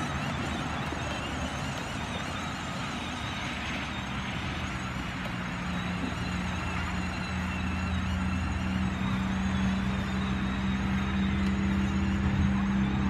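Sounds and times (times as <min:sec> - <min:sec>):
faint wavering high tone: 0:00.0 - 0:13.0
toy car motors running: 0:00.0 - 0:13.0
wheels over grass and leaves: 0:00.0 - 0:13.0.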